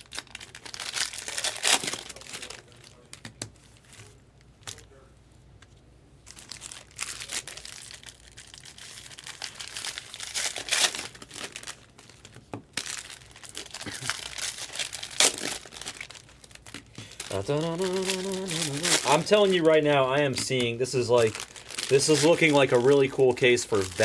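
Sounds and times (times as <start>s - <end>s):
plastic wrapping torn and crinkled: 0.0s - 5.0s, 6.2s - 24.0s.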